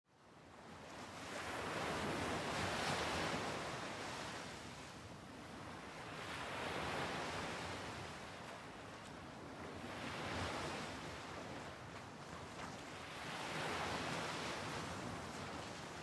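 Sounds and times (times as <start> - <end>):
waves washing onto shore: 0.8 - 16.0.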